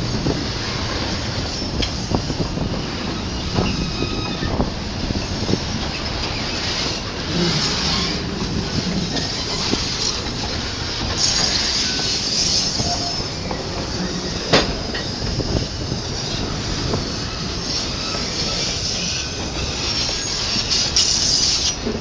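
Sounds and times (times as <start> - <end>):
train wheels running on rails: 0.0 - 22.0.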